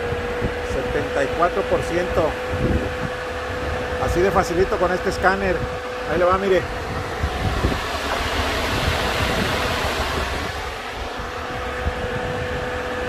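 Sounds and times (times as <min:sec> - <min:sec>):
radiator cooling fan running: 0:00.0 - 0:13.0.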